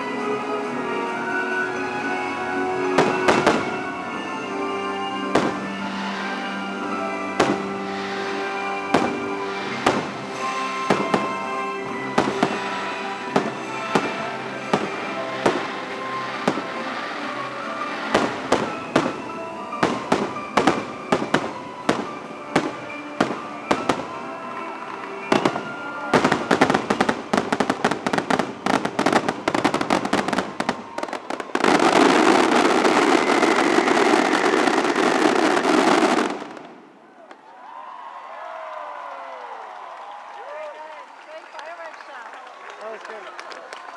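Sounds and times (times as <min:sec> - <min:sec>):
music with sustained notes: 0:00.0 - 0:37.0
fireworks bursting: 0:00.9 - 0:37.4.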